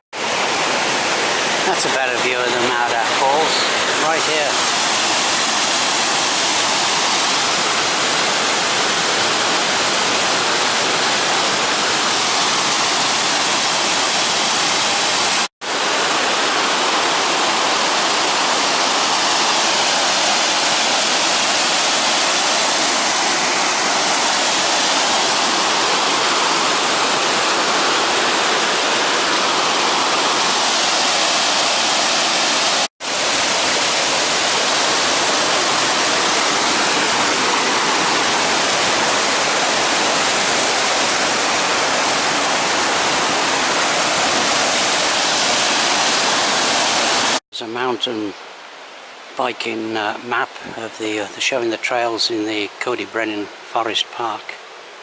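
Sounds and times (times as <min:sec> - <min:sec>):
waterfall rushing: 0:00.2 - 0:55.0.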